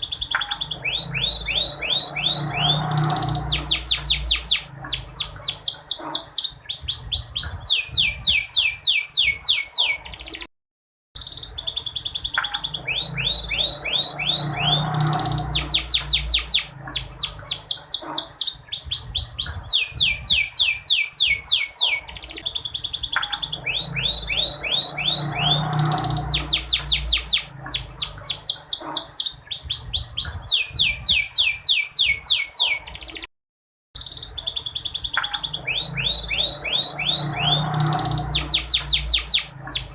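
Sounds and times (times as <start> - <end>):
canary trilling: 0.0 - 10.5, 11.2 - 33.3, 34.0 - 39.9.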